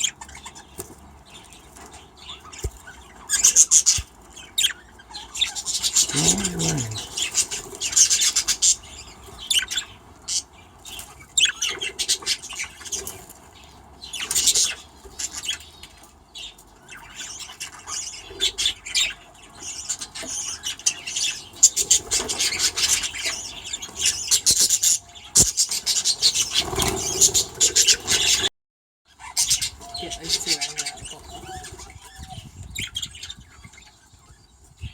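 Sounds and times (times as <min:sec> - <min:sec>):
budgerigars chattering and chirping: 0:00.0 - 0:28.5, 0:29.1 - 0:34.9.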